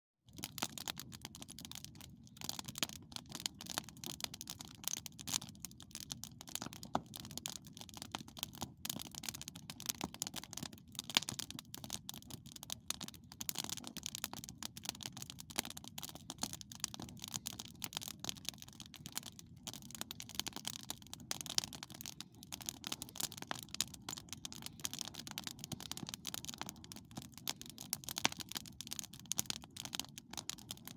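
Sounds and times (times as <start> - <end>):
campfire crackling: 0.4 - 30.9.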